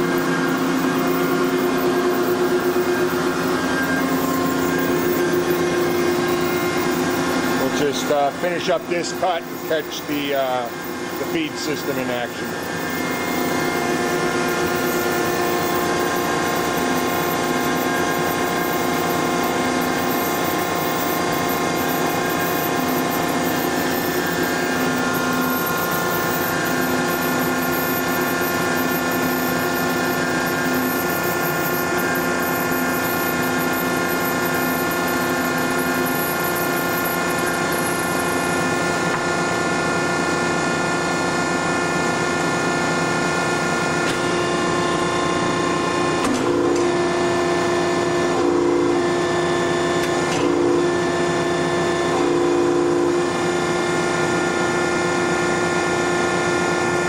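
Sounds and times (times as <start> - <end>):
band saw whine: 0.0 - 57.0.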